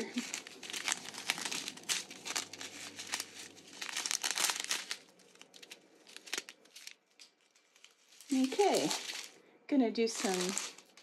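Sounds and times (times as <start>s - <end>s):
plastic bags crinkling: 0.0s - 9.4s, 10.0s - 11.0s.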